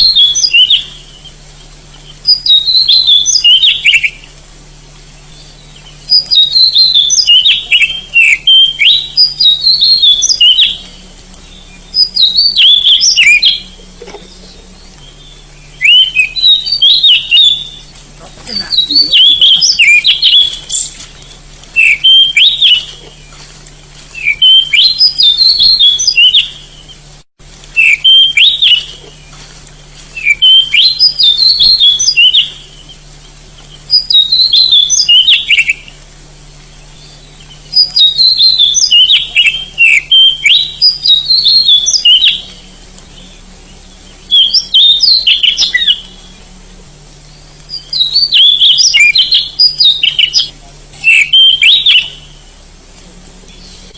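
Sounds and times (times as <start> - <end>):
bird singing: 0.0 - 53.9
faint low hum: 0.0 - 53.9.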